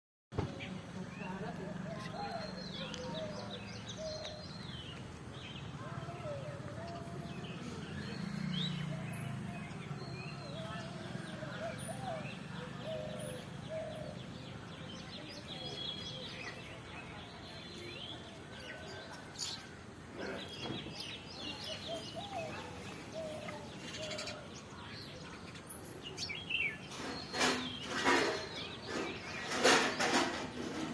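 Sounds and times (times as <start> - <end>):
birds chirping: 0.4 - 30.9.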